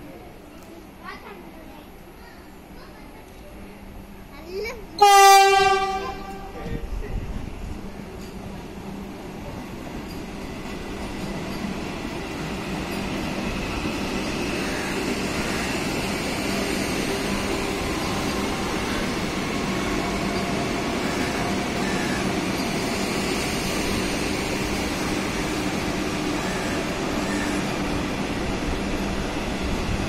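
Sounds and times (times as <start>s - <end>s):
train wheels rushing on rails: 4.4s - 30.0s.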